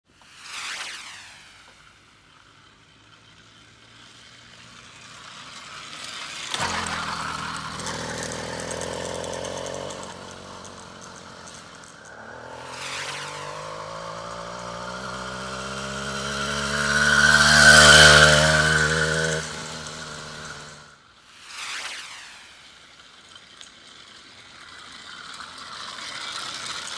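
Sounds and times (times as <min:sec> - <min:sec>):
motorized bicycle engine running: 0:00.2 - 0:21.0, 0:21.7 - 0:26.9.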